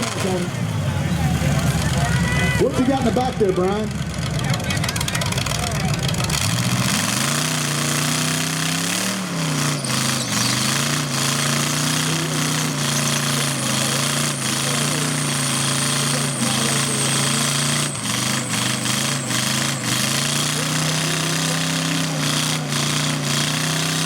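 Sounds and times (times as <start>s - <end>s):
car engine at high revs: 0.0s - 24.0s.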